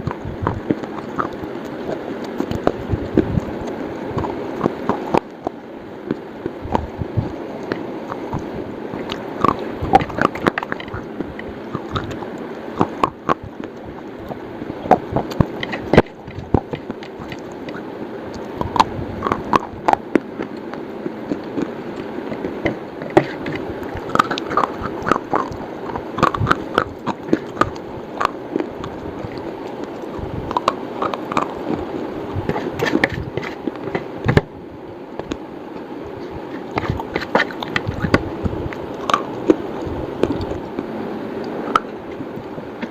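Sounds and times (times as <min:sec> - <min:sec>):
crunchy bar being chewed: 0:00.0 - 0:34.5, 0:35.1 - 0:42.9
low background hum: 0:00.0 - 0:42.9.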